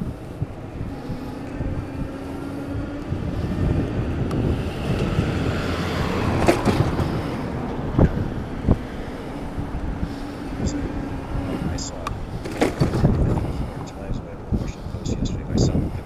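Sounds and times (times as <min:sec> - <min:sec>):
bicycle road noise: 0:00.0 - 0:16.0
traffic noise: 0:00.0 - 0:16.0
wind rushing over microphone: 0:00.0 - 0:16.0.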